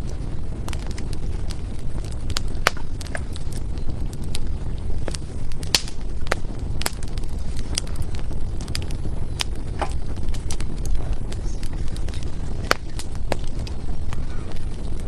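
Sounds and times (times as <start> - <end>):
fire crackling and popping: 0.0 - 15.0
low rumble of flame: 0.0 - 15.0.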